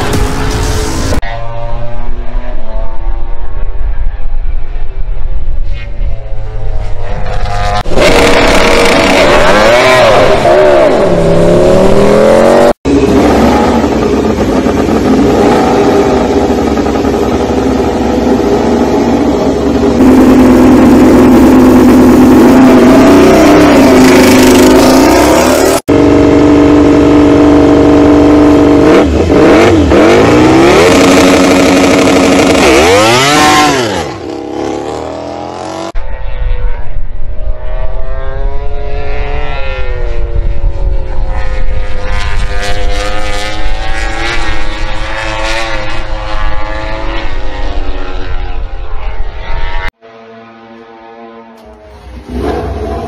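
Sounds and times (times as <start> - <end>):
racing motorcycle engine revving: 0.0 - 5.0, 5.6 - 53.0.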